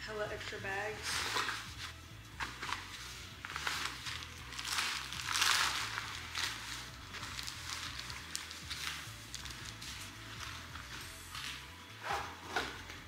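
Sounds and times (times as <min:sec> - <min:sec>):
plastic and fabric rustling: 0:00.7 - 0:13.0.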